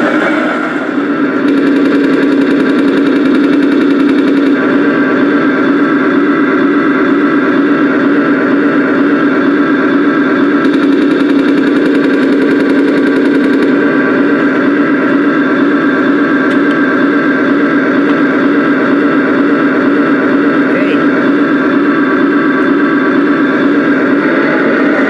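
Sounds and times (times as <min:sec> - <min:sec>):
toy engine idle sound: 0:00.0 - 0:25.0.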